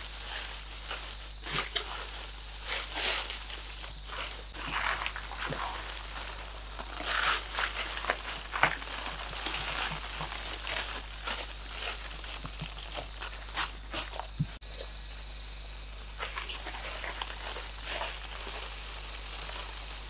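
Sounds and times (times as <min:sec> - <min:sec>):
dry leaves crackling and rustling: 0:00.0 - 0:14.6, 0:16.0 - 0:20.0.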